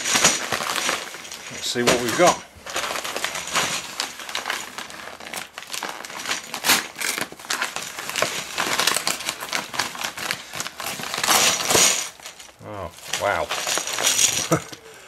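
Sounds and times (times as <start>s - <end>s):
paper bag crinkling: 0.0s - 15.0s.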